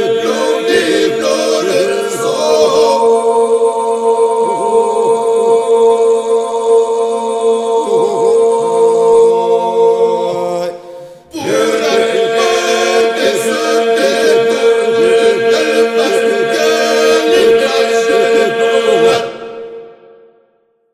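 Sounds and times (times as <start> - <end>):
men's group singing polyphonic song: 0.0 - 20.2.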